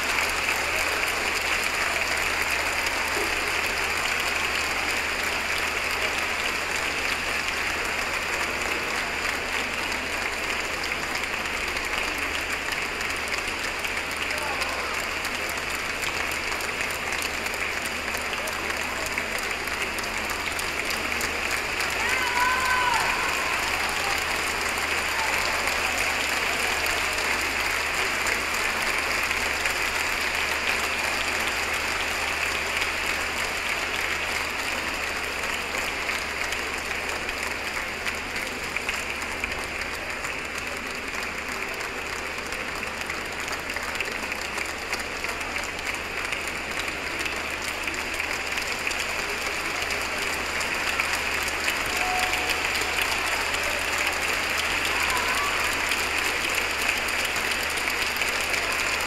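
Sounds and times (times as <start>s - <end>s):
large audience applauding: 0.0s - 59.0s.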